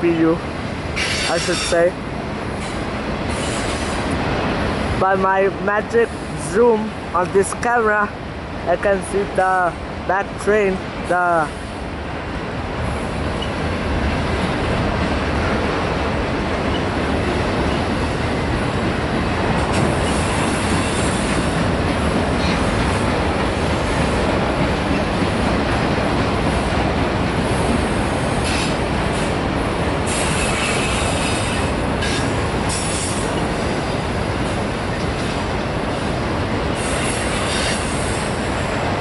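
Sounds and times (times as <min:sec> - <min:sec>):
freight train wheels rumbling on rails: 0:00.0 - 0:39.0.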